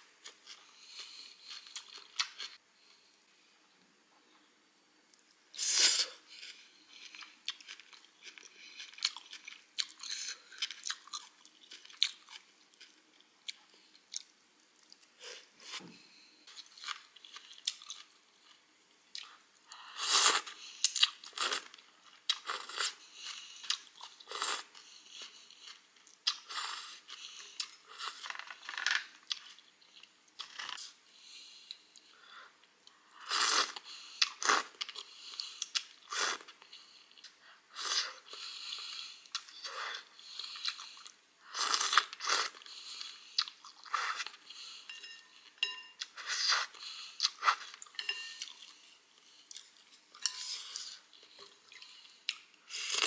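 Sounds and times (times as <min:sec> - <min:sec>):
person chewing food: 0:00.2 - 0:02.6, 0:06.2 - 0:15.9, 0:16.5 - 0:31.0, 0:31.6 - 0:53.0.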